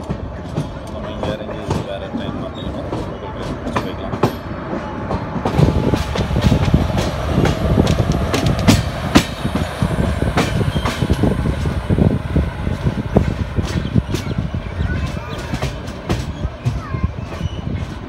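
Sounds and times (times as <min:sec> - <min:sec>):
train wheels rumbling on track: 0:00.0 - 0:18.0
wheels clattering over rail joints: 0:00.0 - 0:18.0.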